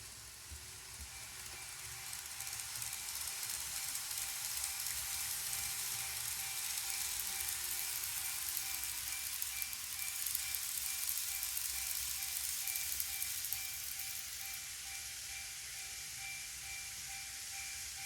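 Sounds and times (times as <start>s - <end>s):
faint motor whine: 0.0s - 18.0s
model train wheels hissing on rail: 0.0s - 18.0s.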